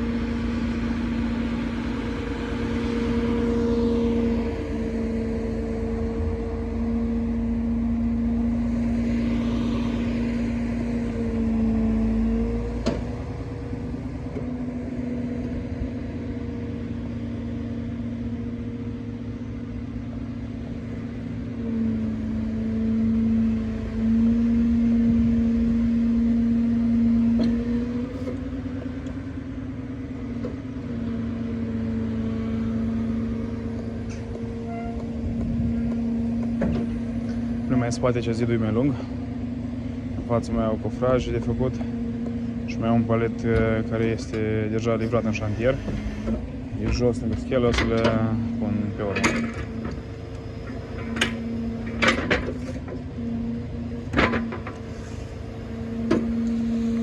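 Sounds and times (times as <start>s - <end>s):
truck engine and hydraulic hum: 0.0s - 57.0s.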